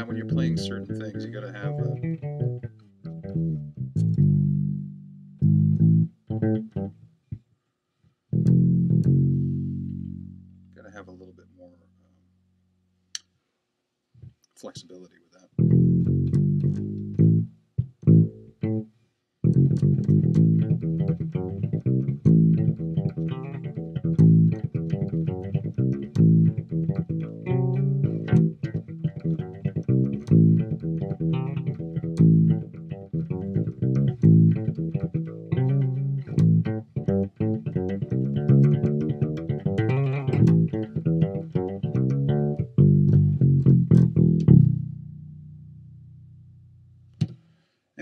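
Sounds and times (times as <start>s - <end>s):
electric bass plucked notes: 0.0s - 7.4s, 8.3s - 11.7s, 15.5s - 47.4s.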